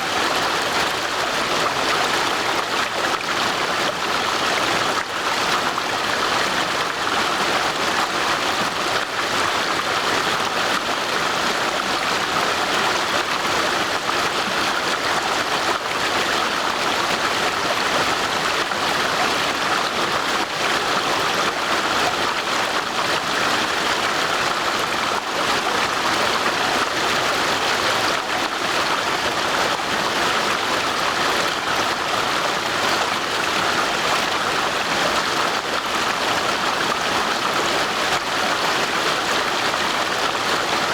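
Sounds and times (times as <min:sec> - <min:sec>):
brook water over stones: 0:00.0 - 0:40.9.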